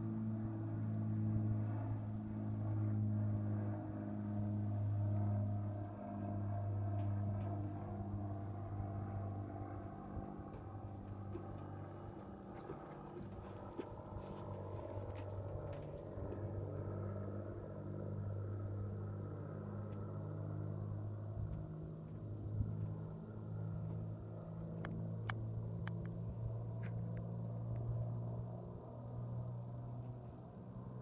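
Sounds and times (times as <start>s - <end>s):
propeller plane droning past: 0.0s - 31.0s.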